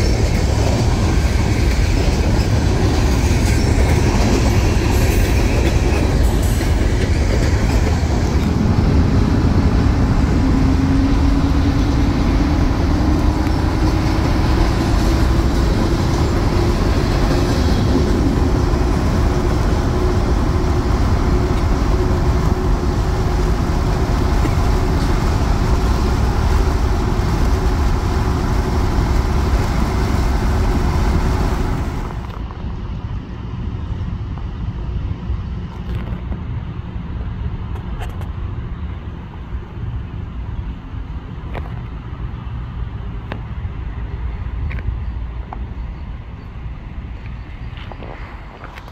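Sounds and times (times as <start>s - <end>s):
car engine and road noise: 0.0s - 48.9s
distant train approaching: 0.0s - 48.9s.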